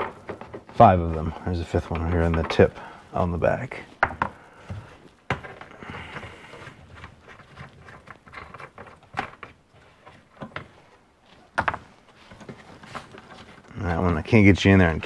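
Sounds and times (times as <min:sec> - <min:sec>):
small knocks and clicks: 0:00.0 - 0:02.8, 0:03.9 - 0:14.5
carpet rustling: 0:00.0 - 0:15.0.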